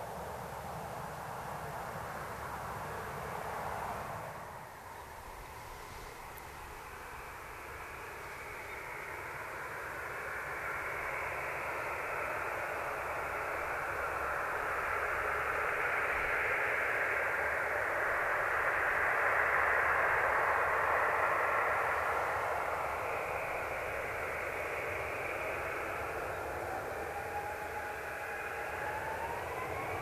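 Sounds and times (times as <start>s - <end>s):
distant jet engines rushing hiss: 0.0s - 30.0s.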